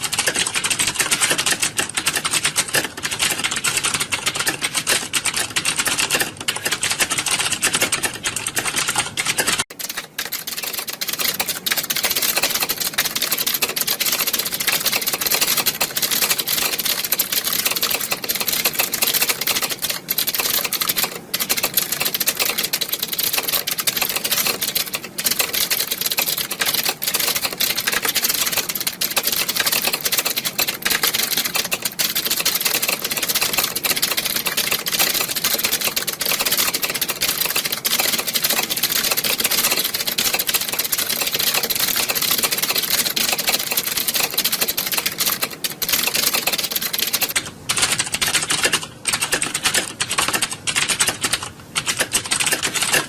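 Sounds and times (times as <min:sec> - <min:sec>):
many keyboards clacking: 0:00.0 - 0:53.0.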